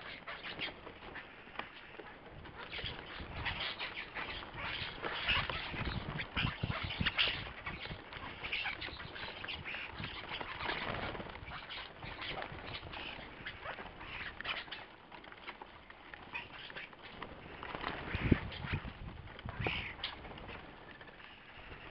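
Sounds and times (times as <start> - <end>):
starlings chattering and squawking: 0.0 - 21.9
wing flutters: 0.0 - 21.9.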